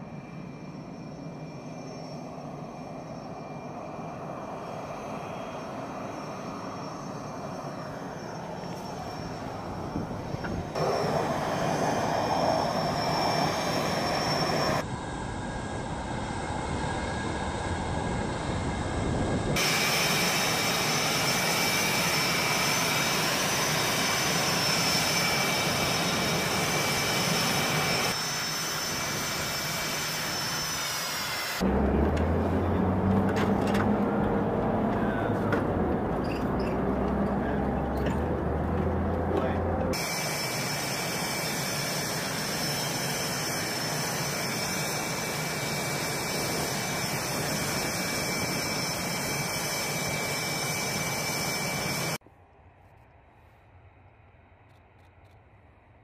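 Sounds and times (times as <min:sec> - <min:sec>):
jet engine high whine: 0:00.0 - 0:56.0.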